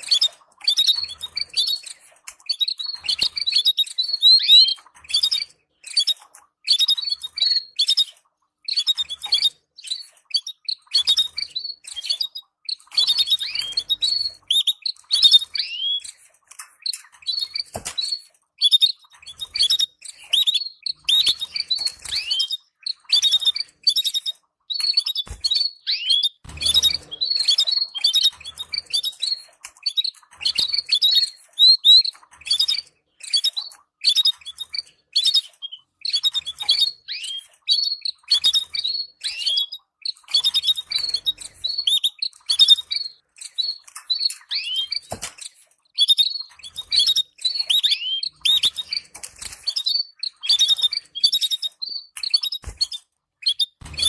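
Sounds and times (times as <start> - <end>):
canaries chirping: 0.0 - 54.0.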